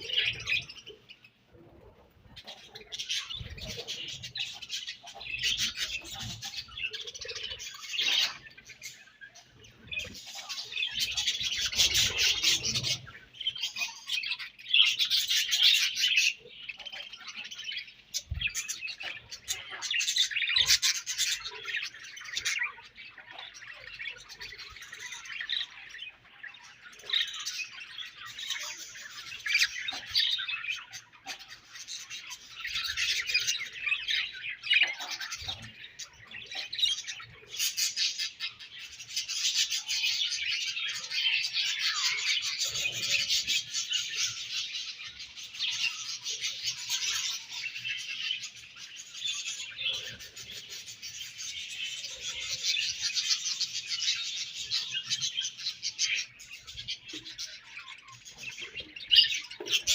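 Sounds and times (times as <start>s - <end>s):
budgerigars chirping and chattering: 0.0s - 59.9s.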